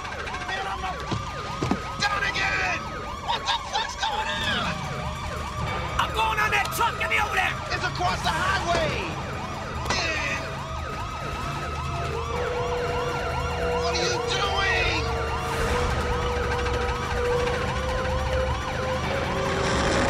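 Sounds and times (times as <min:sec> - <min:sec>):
car engines rumbling: 0:00.0 - 0:20.0
police sirens wailing: 0:00.0 - 0:20.0.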